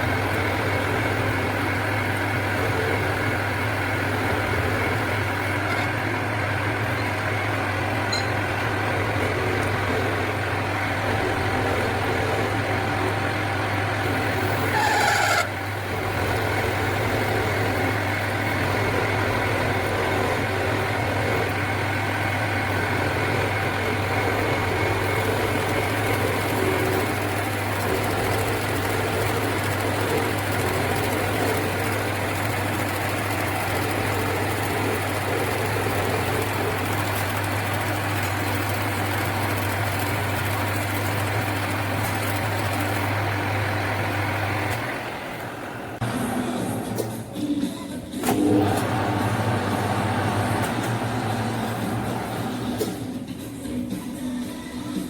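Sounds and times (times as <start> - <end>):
electric motor humming: 0.0 - 46.7.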